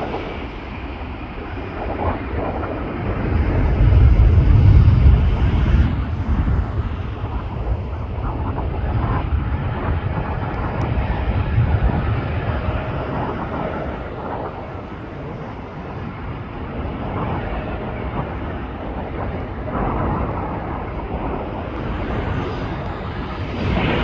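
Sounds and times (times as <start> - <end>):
jet engine rumble: 0.0 - 24.0
wind on microphone: 0.0 - 24.0.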